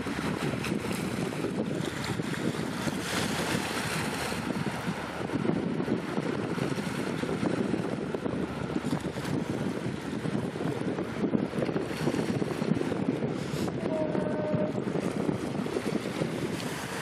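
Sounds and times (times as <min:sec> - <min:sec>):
choppy water: 0:00.0 - 0:17.0
wind buffeting microphone: 0:00.0 - 0:17.0.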